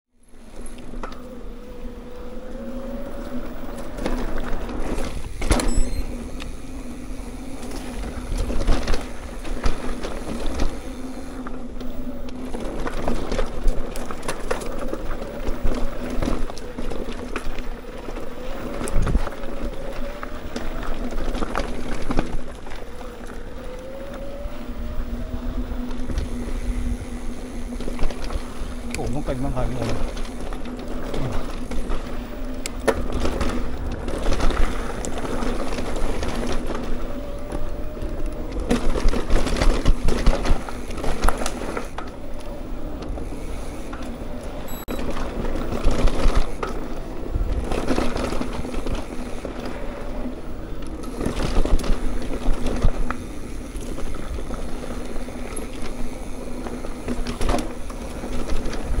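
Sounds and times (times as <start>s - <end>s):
mountain bike on dirt trail: 0.1s - 59.0s.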